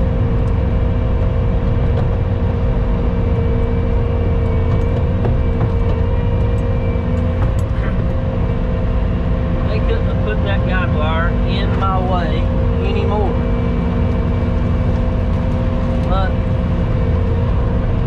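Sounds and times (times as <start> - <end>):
skid steer engine droning: 0.0 - 18.0
steady whine: 0.0 - 18.0.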